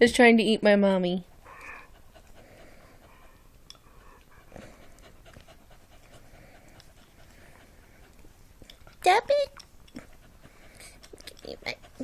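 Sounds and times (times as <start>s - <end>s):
dog panting: 1.3s - 12.0s.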